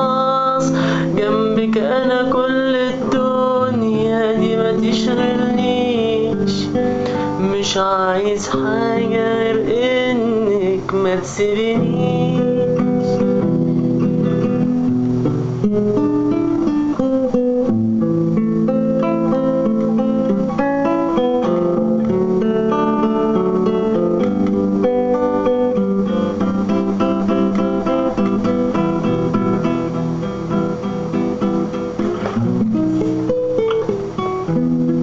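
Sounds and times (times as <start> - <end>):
plucked string instrument melody: 0.0 - 35.0.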